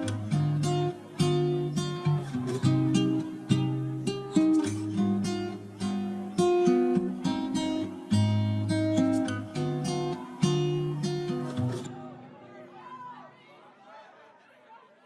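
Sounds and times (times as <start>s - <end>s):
acoustic guitar strumming: 0.0s - 12.7s.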